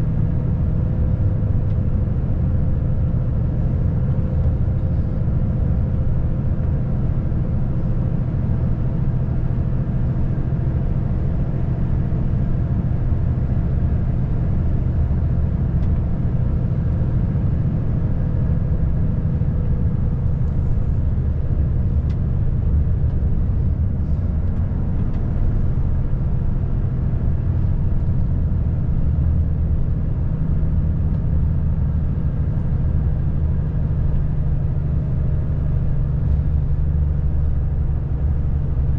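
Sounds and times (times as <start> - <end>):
road rumble: 0.0 - 38.9
truck diesel engine drone: 0.0 - 38.9.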